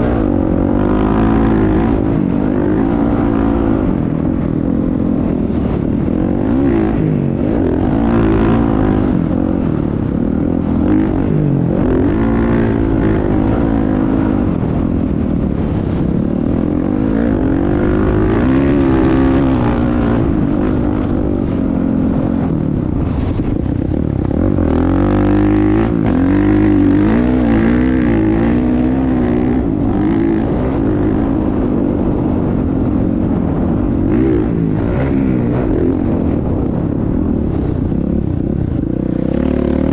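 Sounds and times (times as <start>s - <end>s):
motocross bike engine revving: 0.0s - 36.8s, 39.0s - 39.9s.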